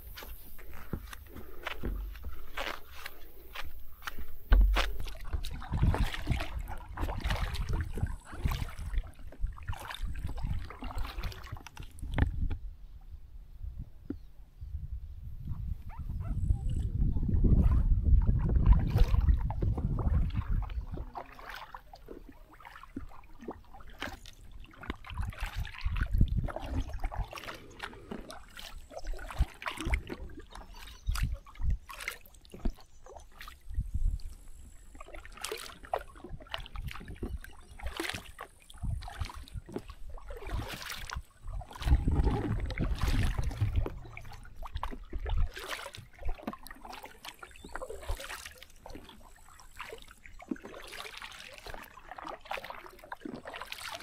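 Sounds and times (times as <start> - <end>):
paddle splashing in water: 0.0 - 12.7, 15.5 - 54.0.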